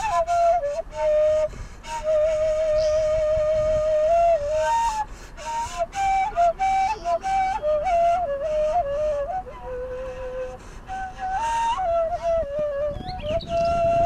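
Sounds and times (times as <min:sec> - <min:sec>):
solo flute melody: 0:00.0 - 0:14.0.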